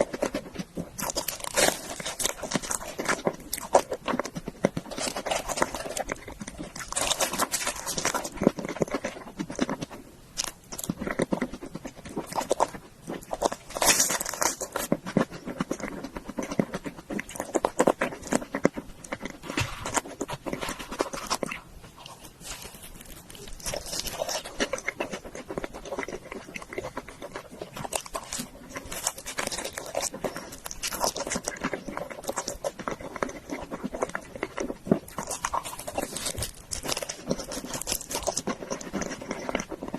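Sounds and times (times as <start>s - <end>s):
chewing food with mouth clicks: 0.0s - 39.9s.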